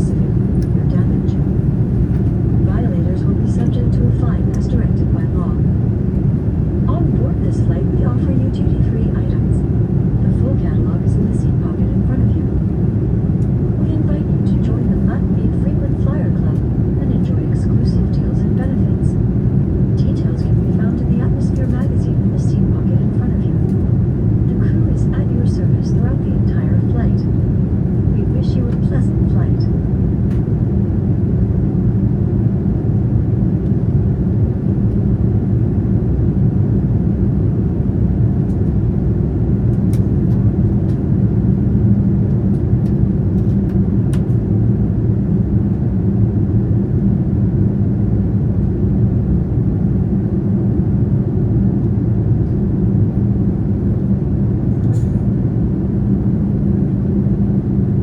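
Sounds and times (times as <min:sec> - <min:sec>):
airplane engines rumbling: 0:00.0 - 0:58.0.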